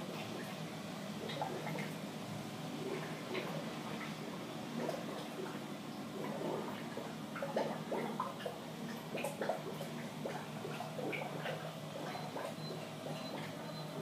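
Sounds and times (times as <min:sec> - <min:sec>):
filter pump hum: 0:00.0 - 0:14.0
water bubbling and trickling: 0:00.0 - 0:14.0.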